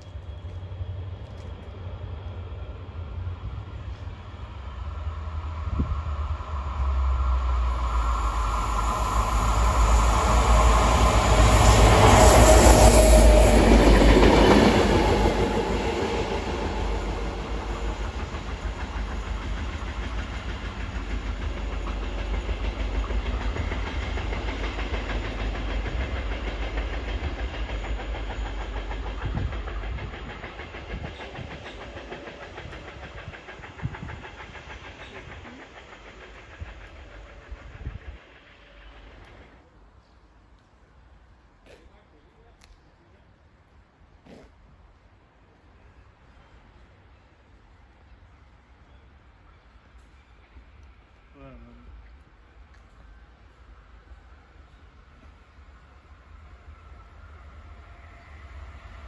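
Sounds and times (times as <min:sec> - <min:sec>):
train wheels on rails: 0:00.0 - 0:43.0, 0:43.7 - 0:59.0.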